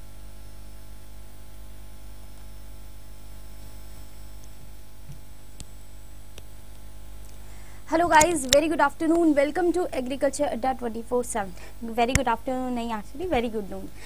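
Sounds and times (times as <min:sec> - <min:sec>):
low electrical hum with hiss: 0:00.0 - 0:14.0.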